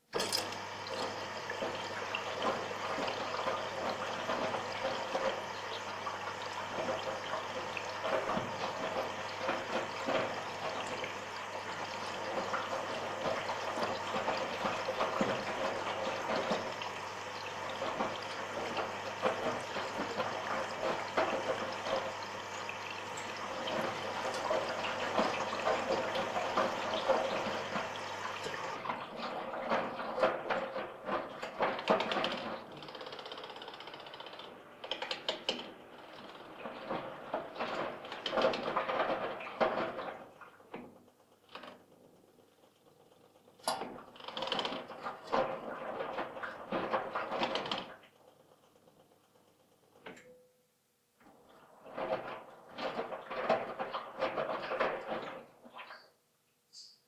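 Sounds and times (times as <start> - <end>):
water rushing into washing machine: 0.0 - 50.2, 51.2 - 56.2
wash sloshing in drum: 0.6 - 32.8, 35.0 - 49.3, 51.2 - 56.1.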